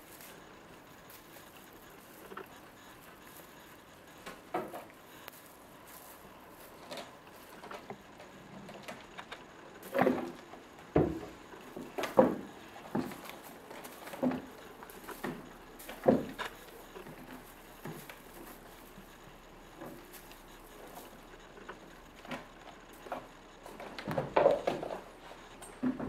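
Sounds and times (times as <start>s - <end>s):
kittens thumping and scuffling: 0.0s - 26.0s.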